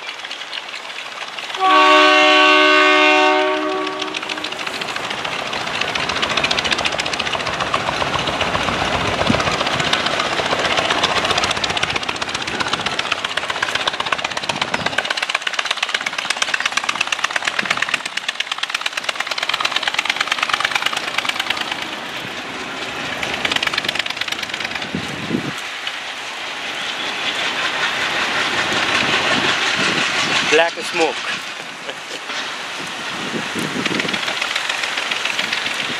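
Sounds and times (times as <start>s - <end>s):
diesel locomotive engine clatter: 0.0s - 35.9s.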